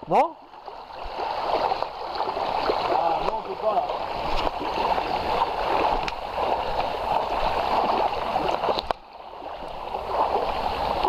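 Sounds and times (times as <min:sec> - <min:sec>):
river water rushing over gravel: 0:00.1 - 0:11.0
splashing of wading: 0:00.1 - 0:11.0.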